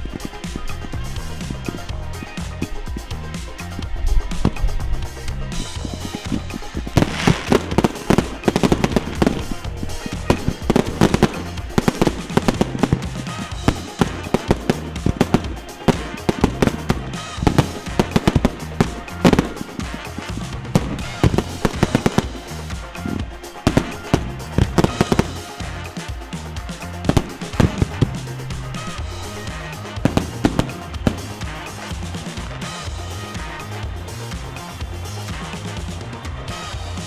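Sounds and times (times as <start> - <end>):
fireworks bangs and crackles: 0.0 - 34.4
music playing: 0.0 - 37.0.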